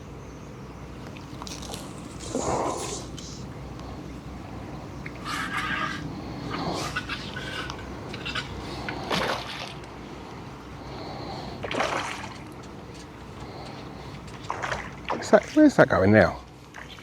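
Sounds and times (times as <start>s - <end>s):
light water splashes: 0.9s - 3.9s, 5.0s - 10.4s, 11.2s - 17.0s.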